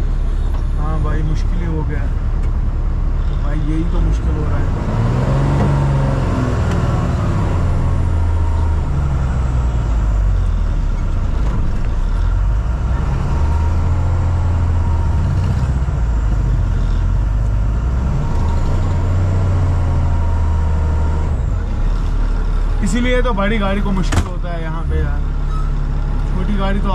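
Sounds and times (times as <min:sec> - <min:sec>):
truck diesel engine running: 0:00.0 - 0:26.9.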